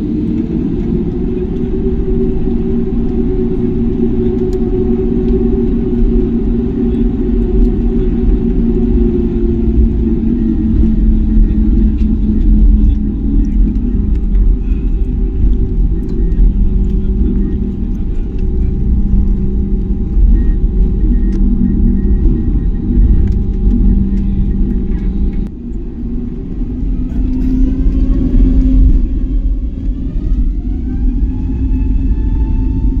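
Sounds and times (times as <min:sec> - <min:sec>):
aircraft cabin rumble and hum: 0:00.0 - 0:33.0
rising whines: 0:00.0 - 0:33.0.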